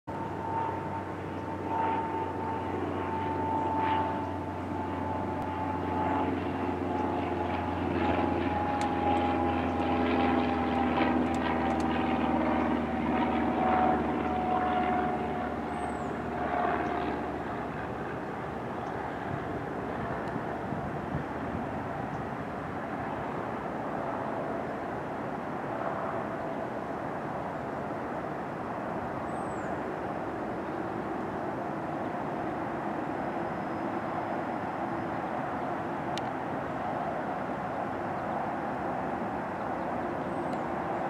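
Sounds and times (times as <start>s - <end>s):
jet engines whining: 0.1s - 41.0s.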